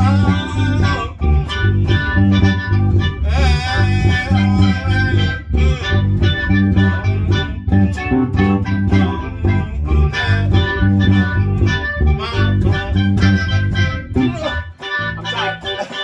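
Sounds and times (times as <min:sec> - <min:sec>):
electric bass line: 0:00.0 - 0:16.0
keyboard chords: 0:00.0 - 0:16.0.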